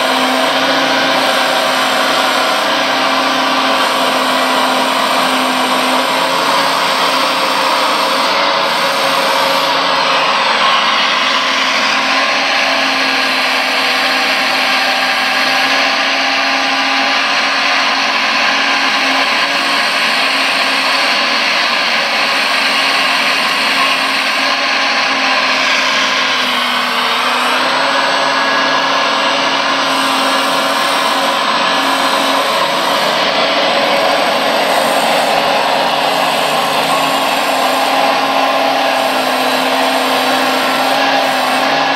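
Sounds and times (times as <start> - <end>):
hydraulic pump whirring: 0.0 - 41.9.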